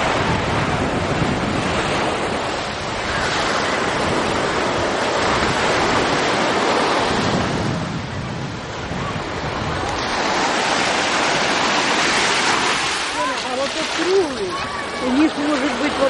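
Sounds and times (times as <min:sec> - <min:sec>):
waves washing onto sand: 0:00.0 - 0:16.0.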